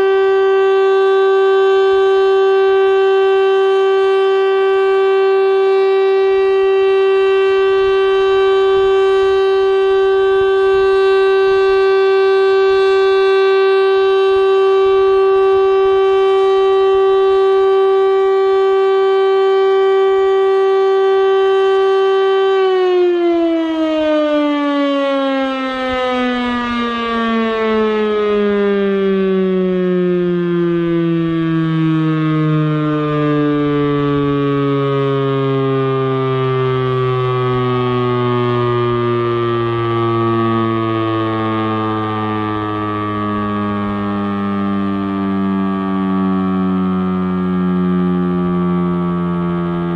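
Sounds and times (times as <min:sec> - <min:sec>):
tornado siren wailing: 0:00.0 - 0:49.9.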